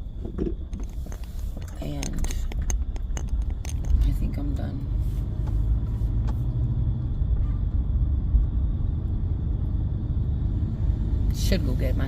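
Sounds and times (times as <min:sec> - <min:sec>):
car cabin rumble: 0:00.0 - 0:10.4.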